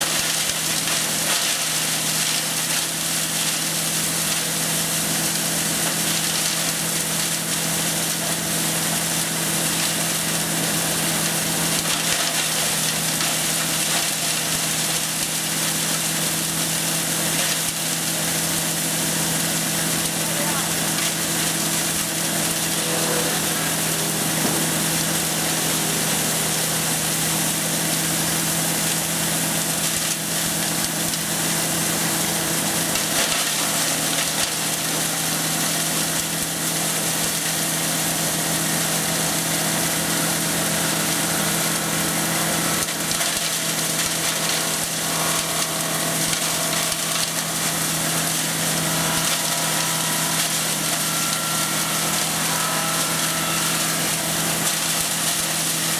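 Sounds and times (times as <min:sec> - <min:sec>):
wood chipper engine running: 0:00.0 - 0:55.9.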